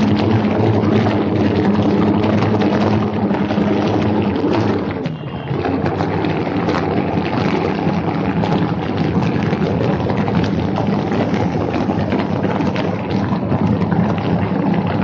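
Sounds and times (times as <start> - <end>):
drone propellers buzzing: 0.0 - 14.9
wind rushing over microphone: 0.0 - 15.0.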